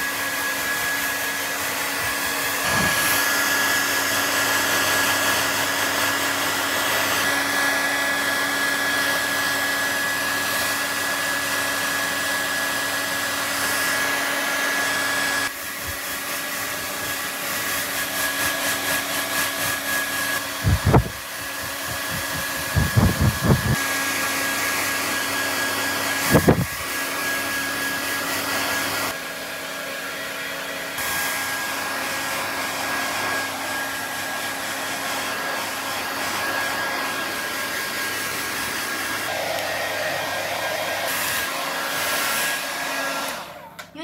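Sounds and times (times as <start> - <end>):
hair dryer blowing: 0.0 - 44.0.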